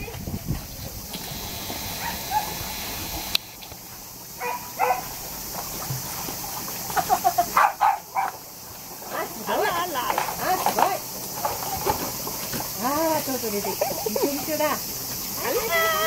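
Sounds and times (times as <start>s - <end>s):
steady hiss: 0.0s - 16.0s
water sloshing: 0.0s - 16.0s.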